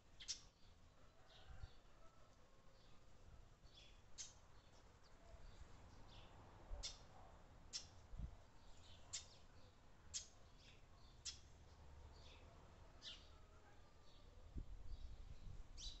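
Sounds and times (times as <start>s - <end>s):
small birds chirping faintly: 0.0s - 16.0s.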